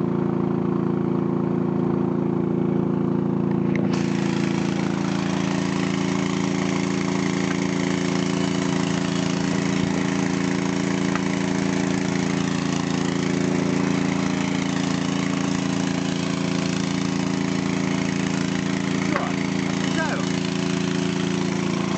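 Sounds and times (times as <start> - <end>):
small diesel engine running: 0.0 - 21.9.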